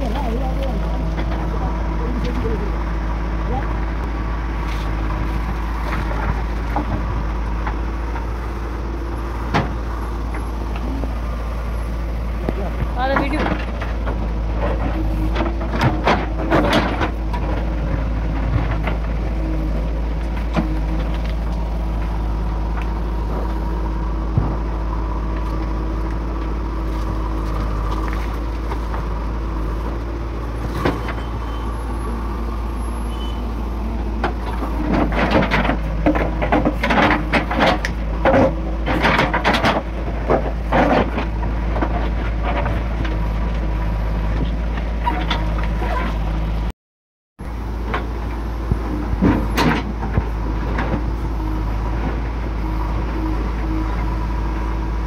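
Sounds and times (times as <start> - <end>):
diesel engine running: 0.0 - 46.7, 47.4 - 55.0.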